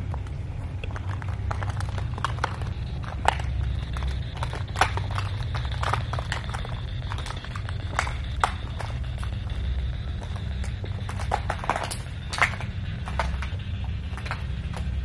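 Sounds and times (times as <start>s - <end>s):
footsteps: 0.0s - 15.0s
steady low hum: 0.0s - 15.0s.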